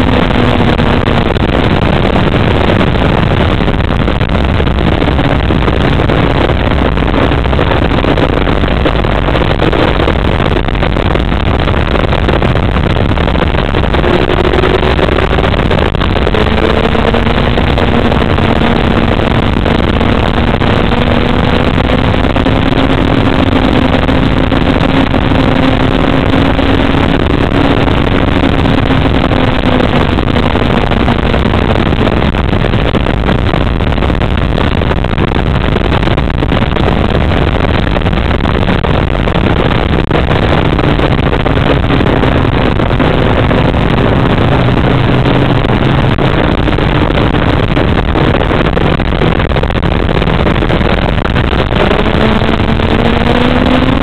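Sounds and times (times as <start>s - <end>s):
motorcycle engine running: 0.0s - 35.1s, 39.2s - 49.4s, 50.2s - 54.0s
wind rushing noise: 0.0s - 54.0s.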